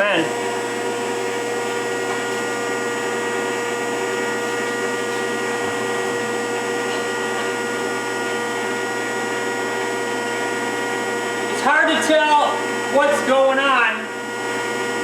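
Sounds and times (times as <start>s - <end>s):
hydraulic pump and motor humming: 0.0s - 15.0s.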